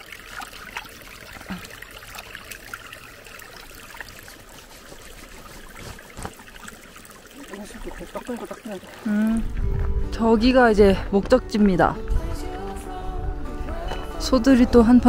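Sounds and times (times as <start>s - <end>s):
water splashing: 0.0s - 12.8s
stream trickling over stones: 0.0s - 12.9s.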